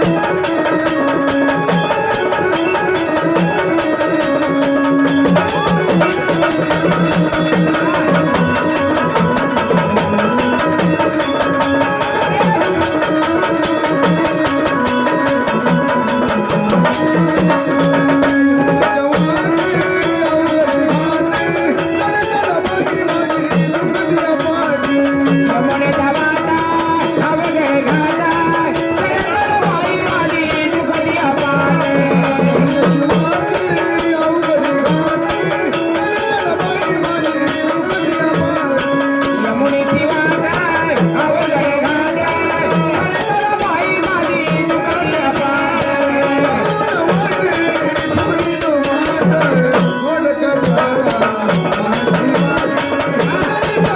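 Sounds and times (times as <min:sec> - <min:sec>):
steady drum rhythm: 0:00.0 - 0:49.9
pitched folk melody: 0:00.0 - 0:53.9.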